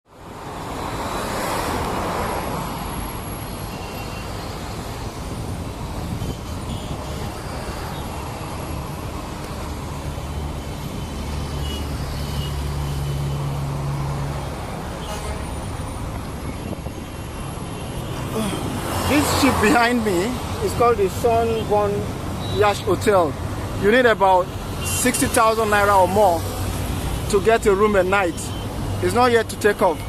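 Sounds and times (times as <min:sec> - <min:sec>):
vehicles passing: 0:00.1 - 0:30.0.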